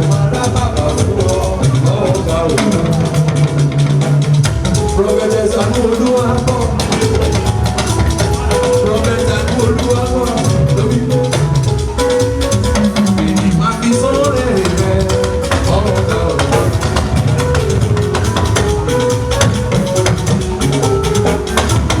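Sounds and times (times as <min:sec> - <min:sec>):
band playing upbeat music: 0:00.0 - 0:22.0
drums and shakers beat: 0:00.0 - 0:22.0.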